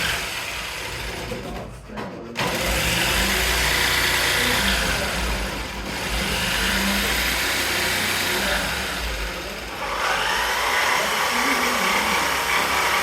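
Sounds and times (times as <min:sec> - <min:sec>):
power tool cutting wood: 0:00.0 - 0:01.7, 0:02.3 - 0:13.0.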